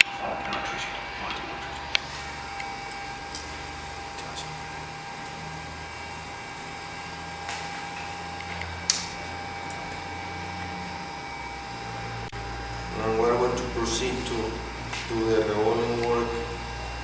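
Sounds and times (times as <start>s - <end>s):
fan whirring and humming: 0.0s - 17.0s
thin steady whine: 0.0s - 17.0s.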